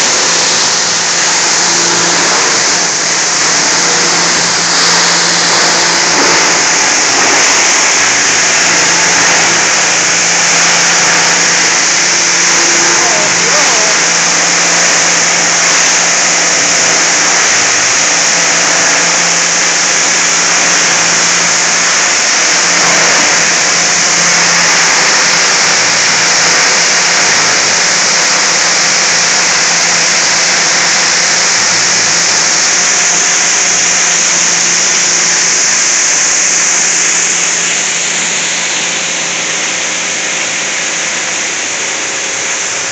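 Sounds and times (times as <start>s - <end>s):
plastic crusher grinding: 0.0s - 42.9s.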